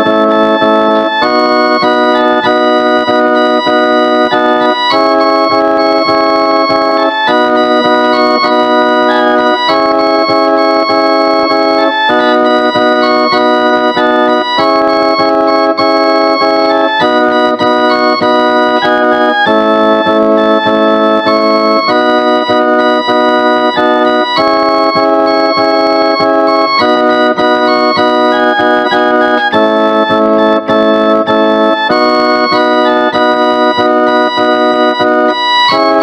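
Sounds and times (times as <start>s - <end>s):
organ-style keyboard chords: 0.0s - 36.0s.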